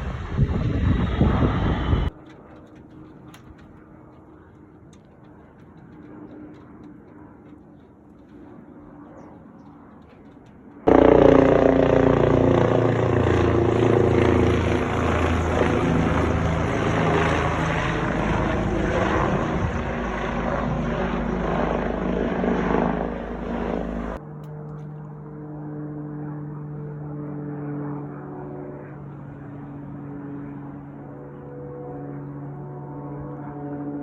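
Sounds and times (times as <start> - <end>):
aircraft engine drone passing: 0.0 - 34.0.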